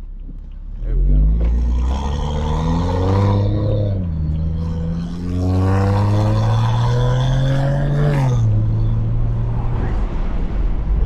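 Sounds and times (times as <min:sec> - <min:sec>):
car engine revving through gears: 0:00.8 - 0:09.8.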